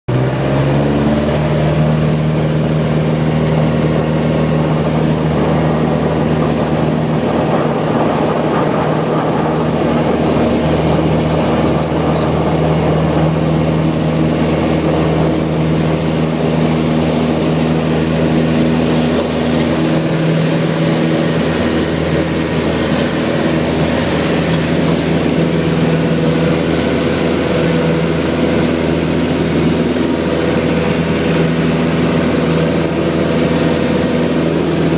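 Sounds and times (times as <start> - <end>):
light aircraft engine and propeller: 0.1 - 34.9.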